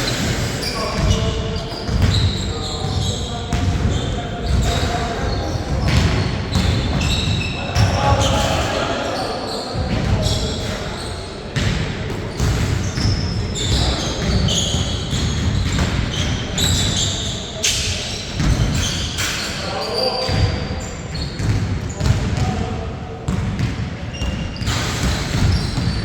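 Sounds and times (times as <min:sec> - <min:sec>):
sneakers squeaking on floor: 0:00.0 - 0:26.0.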